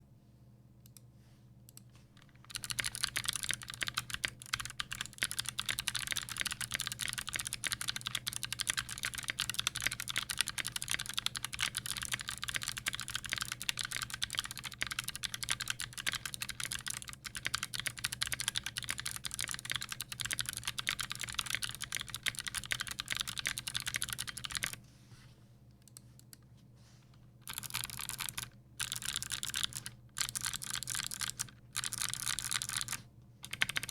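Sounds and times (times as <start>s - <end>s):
fast typing on mechanical keyboard: 2.2s - 24.8s, 27.4s - 33.9s.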